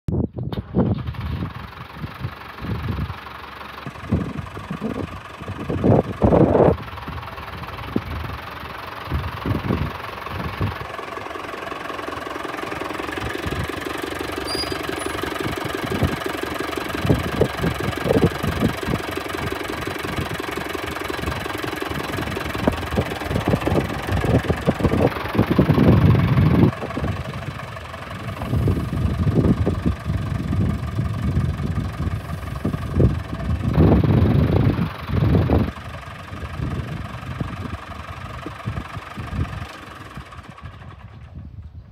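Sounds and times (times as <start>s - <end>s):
tractor engine running: 0.1s - 41.9s
low rumbling bursts: 0.2s - 41.9s.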